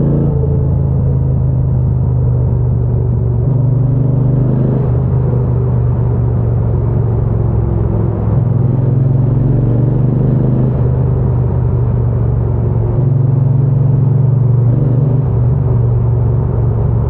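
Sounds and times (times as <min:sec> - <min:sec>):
motorcycle engine and exhaust: 0:00.0 - 0:17.0.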